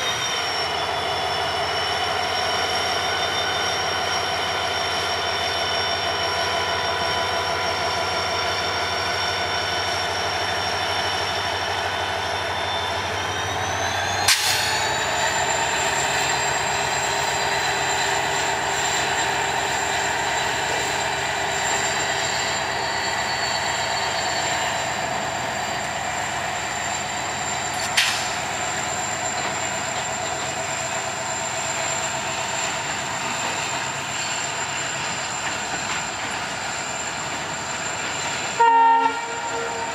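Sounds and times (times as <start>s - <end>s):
diesel locomotive engine whine: 0.0s - 39.9s.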